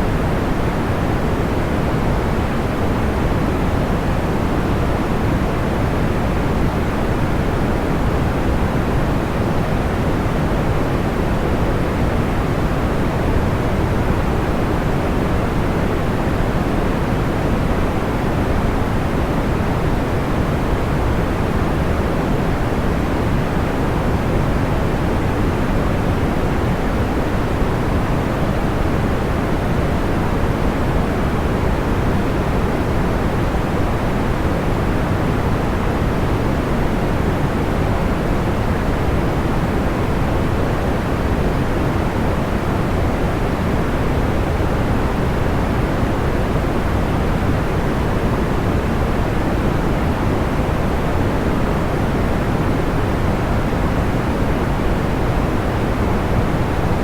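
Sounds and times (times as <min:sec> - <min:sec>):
soft white noise: 0:00.0 - 0:57.0.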